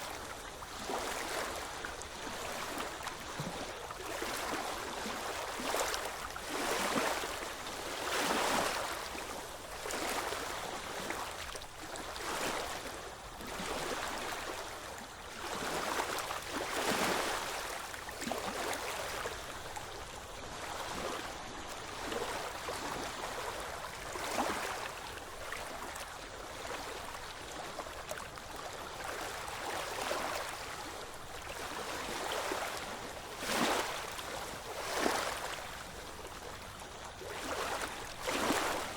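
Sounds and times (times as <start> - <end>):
ocean waves washing on shore: 0.0 - 38.9.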